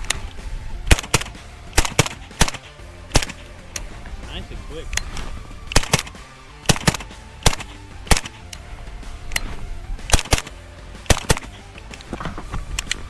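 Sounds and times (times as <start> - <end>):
suppressed gunshots: 0.0 - 13.0.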